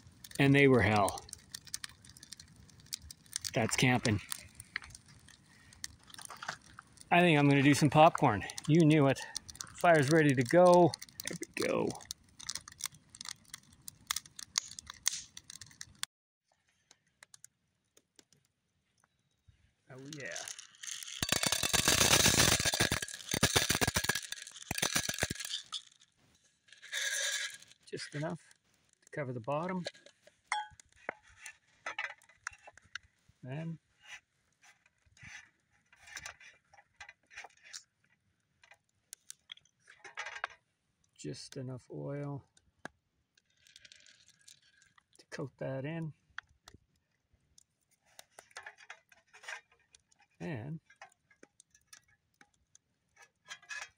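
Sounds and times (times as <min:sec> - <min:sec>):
campfire crackling and popping: 0:00.0 - 0:16.1, 0:16.9 - 0:18.6, 0:19.9 - 0:33.2, 0:36.2 - 0:53.9
cooking gear clicks and rustles: 0:00.0 - 0:16.1, 0:19.9 - 0:33.2, 0:34.1 - 0:40.7, 0:43.3 - 0:45.4, 0:46.2 - 0:53.9.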